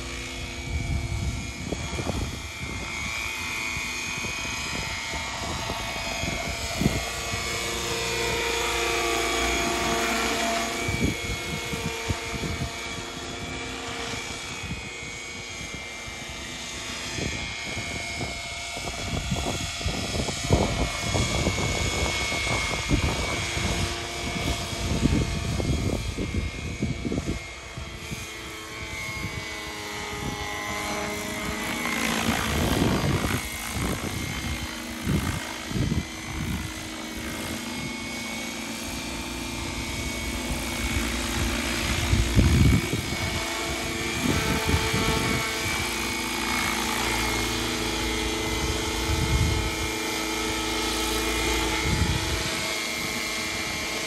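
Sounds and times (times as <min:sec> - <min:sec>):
helicopter rotor chop: 0:00.0 - 0:54.0
wind buffeting microphone: 0:00.0 - 0:54.0.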